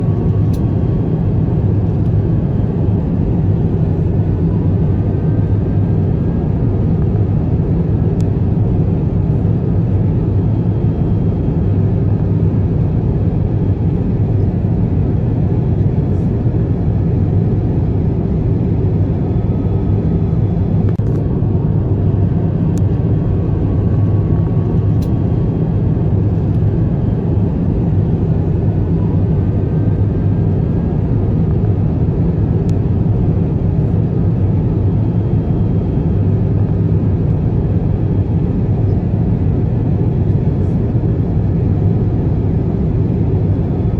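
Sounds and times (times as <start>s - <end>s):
airliner engines rumbling: 0.0s - 43.9s
rushing air in cabin: 0.0s - 43.9s.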